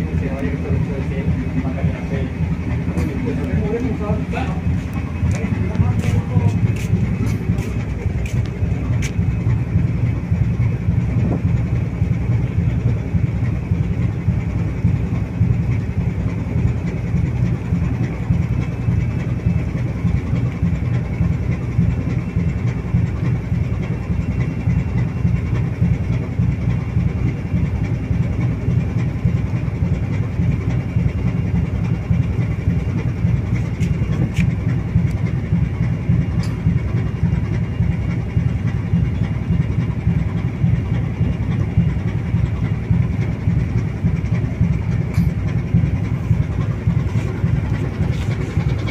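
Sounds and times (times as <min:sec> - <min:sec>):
ship diesel engine throbbing: 0:00.0 - 0:48.9.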